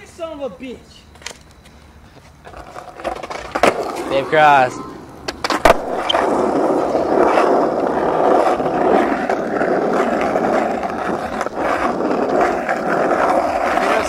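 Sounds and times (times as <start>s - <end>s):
skateboard wheels rolling on asphalt: 0.0s - 14.0s.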